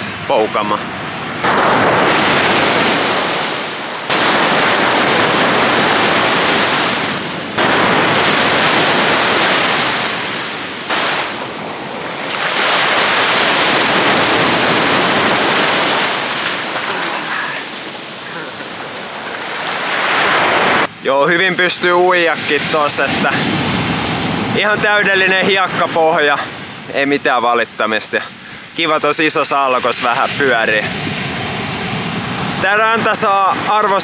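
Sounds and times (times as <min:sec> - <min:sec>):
surf breaking on beach: 0:00.0 - 0:26.7, 0:28.8 - 0:34.0.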